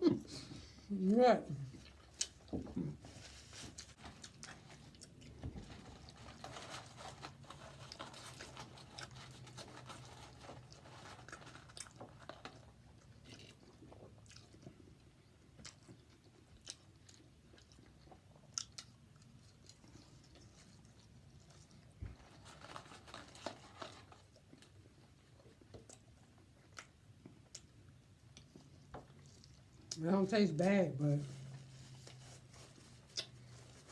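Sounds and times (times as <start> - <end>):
person chewing: 1.7 - 5.4, 7.3 - 22.0, 22.6 - 30.0, 32.0 - 33.9.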